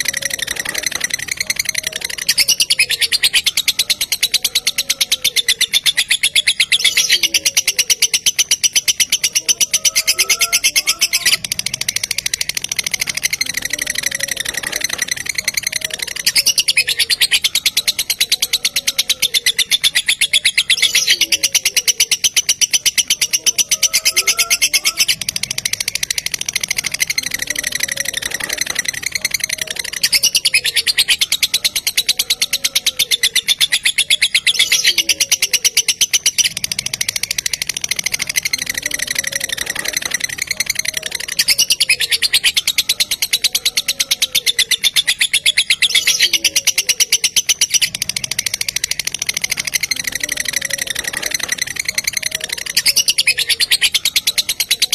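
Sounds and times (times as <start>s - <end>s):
lovebird chattering trill: 0.0s - 54.9s.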